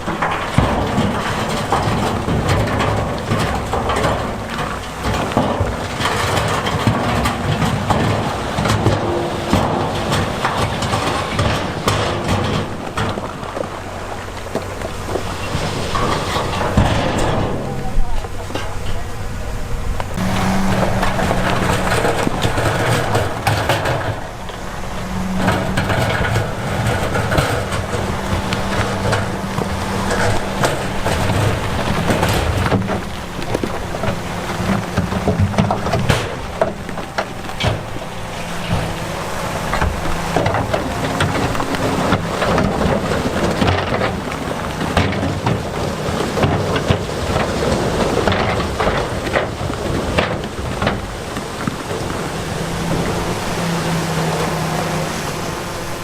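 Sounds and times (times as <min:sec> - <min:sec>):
stones tumbling and knocking: 0:00.0 - 0:19.3, 0:20.0 - 0:56.0
diesel machinery engine under load: 0:00.0 - 0:56.0.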